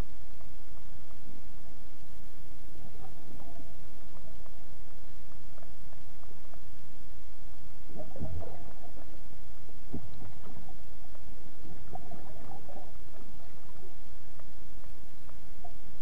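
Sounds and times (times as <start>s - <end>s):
steady low rumble: 0.0s - 16.0s
underwater bubbling gurgles: 0.0s - 16.0s.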